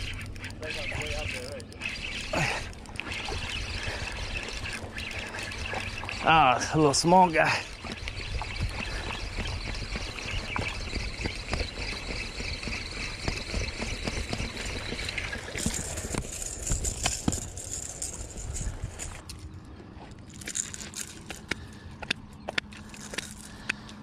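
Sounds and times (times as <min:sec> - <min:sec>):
water trickling and splashing: 0:00.0 - 0:19.2.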